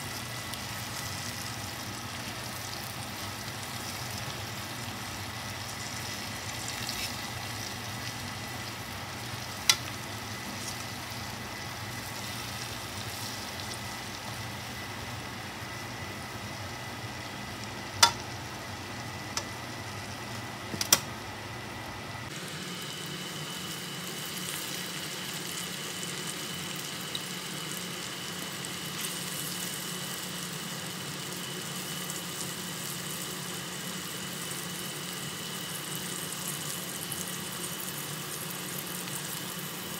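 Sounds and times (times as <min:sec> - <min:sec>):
food sizzling in oil: 0:00.0 - 0:21.6, 0:22.2 - 0:39.9.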